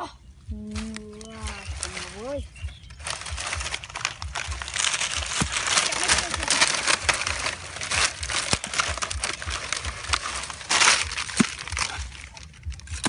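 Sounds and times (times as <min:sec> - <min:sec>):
hand digging dry soil and leaves: 0:00.5 - 0:13.0.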